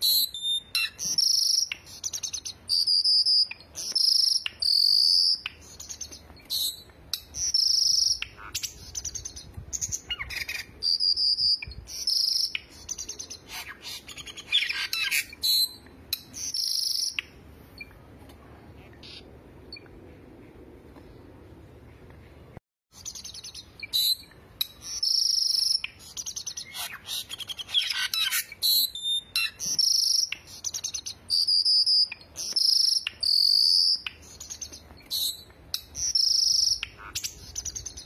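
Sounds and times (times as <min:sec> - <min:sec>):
songbirds singing: 0:00.0 - 0:18.1, 0:21.0 - 0:38.0.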